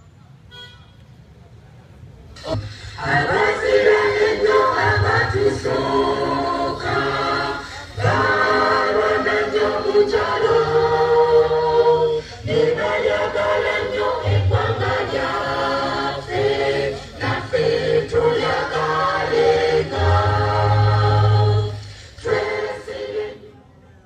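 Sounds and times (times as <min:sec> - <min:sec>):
group singing unaccompanied: 0:02.4 - 0:23.6.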